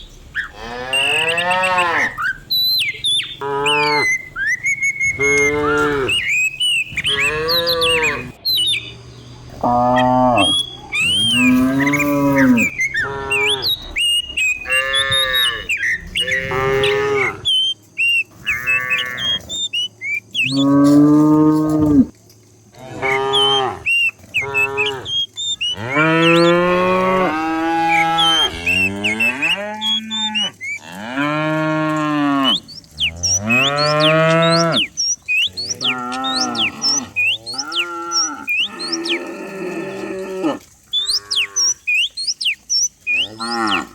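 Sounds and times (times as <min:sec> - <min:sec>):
cattle mooing: 0:00.4 - 0:02.3, 0:03.4 - 0:04.3, 0:05.0 - 0:06.4, 0:07.0 - 0:17.5, 0:18.4 - 0:19.5, 0:20.5 - 0:22.1, 0:22.8 - 0:41.7, 0:43.1 - 0:43.9.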